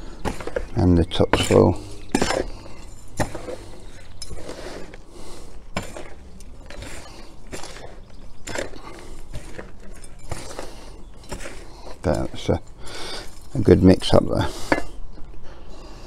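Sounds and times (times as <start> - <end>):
trowel scraping gritty soil: 0.0 - 14.9.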